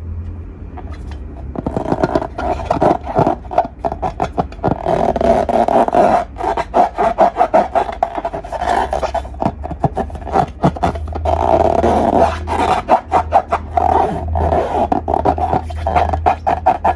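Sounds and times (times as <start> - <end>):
slime squishing and crackling: 0.8 - 16.9.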